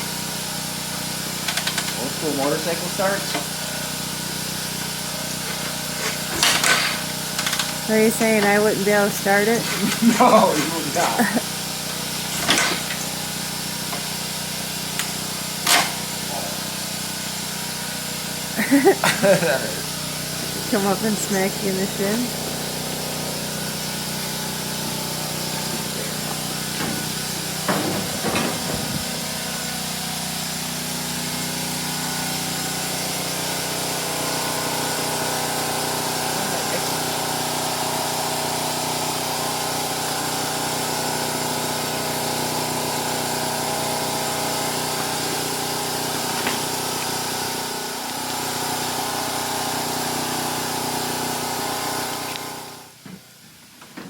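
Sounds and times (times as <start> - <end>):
small engine humming: 0.0 - 17.1, 18.0 - 52.9.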